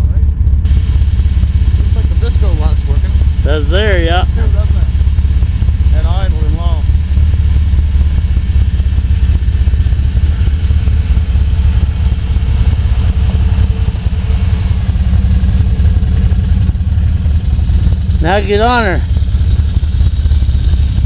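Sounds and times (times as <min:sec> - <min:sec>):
atv engine idling: 0:00.0 - 0:21.0.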